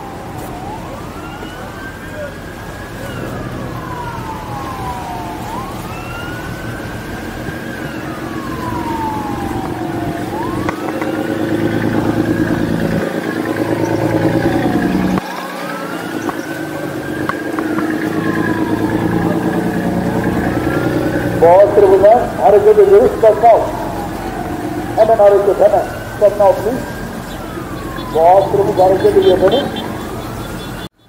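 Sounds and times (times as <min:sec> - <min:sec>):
boat engine running: 0:00.0 - 0:30.8
siren wailing: 0:00.0 - 0:31.0.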